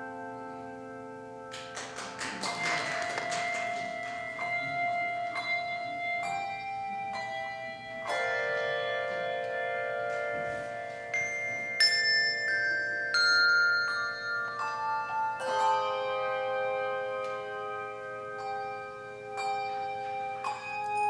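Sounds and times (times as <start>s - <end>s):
handbell choir playing chords: 0.0s - 21.0s.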